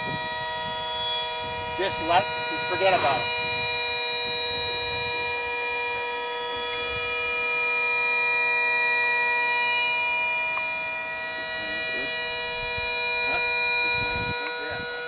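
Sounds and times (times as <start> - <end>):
motor whine: 0.0 - 15.0.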